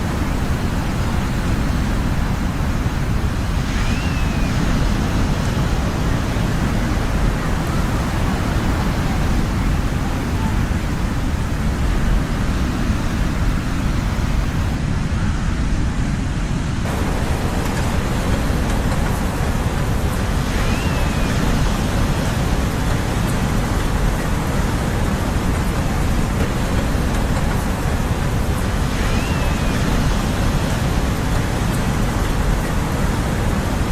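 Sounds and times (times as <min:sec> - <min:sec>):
ocean surf roaring: 0:00.0 - 0:33.9.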